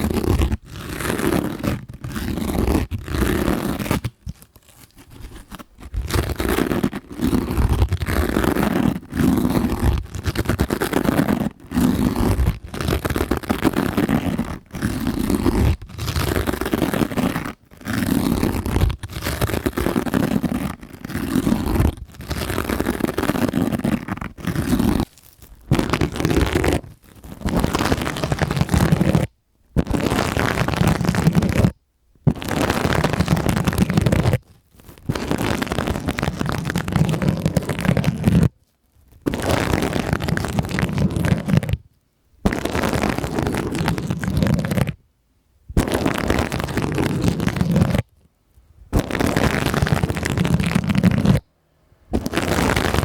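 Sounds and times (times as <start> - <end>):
sponges squishing against microphone: 0.0 - 41.8, 42.4 - 45.0, 45.8 - 48.1, 48.9 - 51.5, 52.2 - 53.0.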